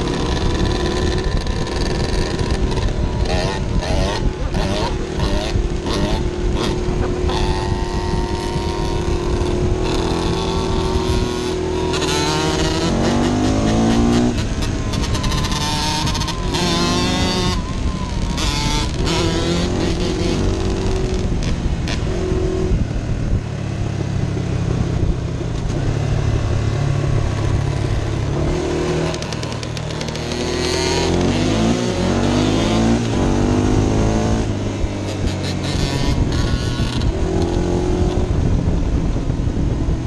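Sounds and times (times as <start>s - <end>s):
quad engine revving: 0.0s - 22.8s, 28.2s - 38.4s
dirt bike engines: 0.0s - 40.0s.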